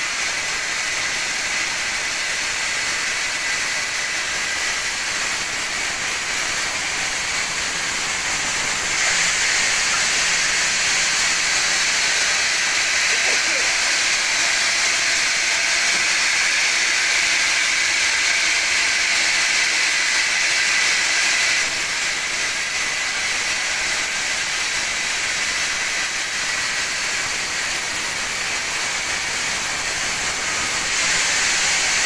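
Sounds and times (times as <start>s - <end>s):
band saw blade cutting wood: 0.0s - 32.0s.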